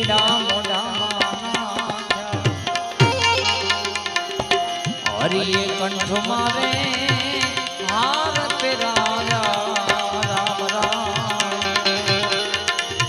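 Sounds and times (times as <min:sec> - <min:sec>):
harmonium steady tones: 0:00.0 - 0:13.0
tabla strokes: 0:00.0 - 0:13.0.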